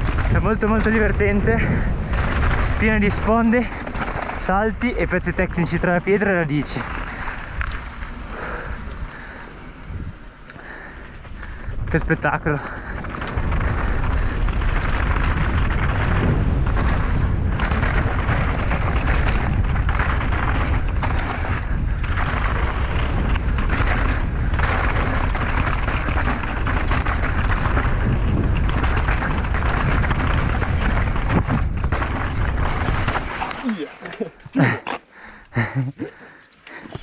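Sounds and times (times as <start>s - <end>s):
bike tyres rolling over gravel: 0.0s - 37.0s
wind buffeting microphone: 0.0s - 37.0s.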